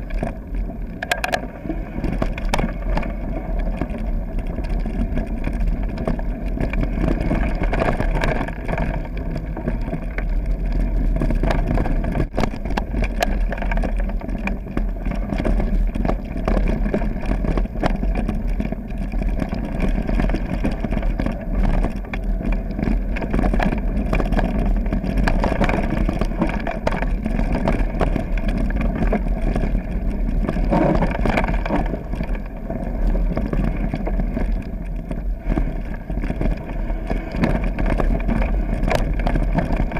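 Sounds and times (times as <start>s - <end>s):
tyres crunching on loose stones: 0.0s - 39.9s
wind rumble on microphone: 0.0s - 39.9s.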